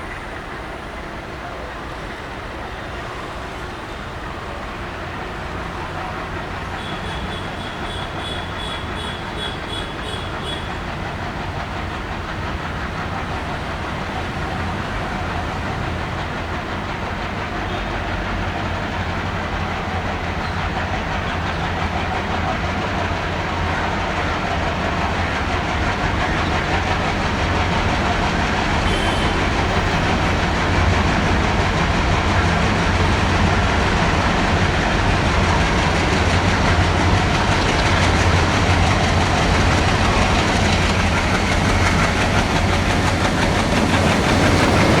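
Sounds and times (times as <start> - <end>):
diesel train engine rumble: 0.0 - 45.0
train wheel clatter: 0.0 - 45.0.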